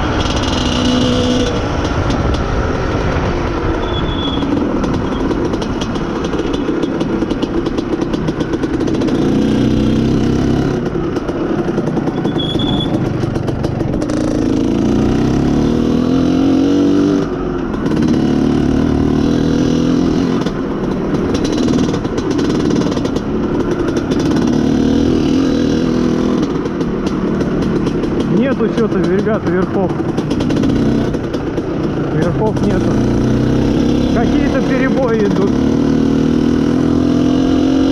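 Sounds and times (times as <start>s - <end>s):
two-stroke motorcycle engine revving: 0.0s - 37.9s.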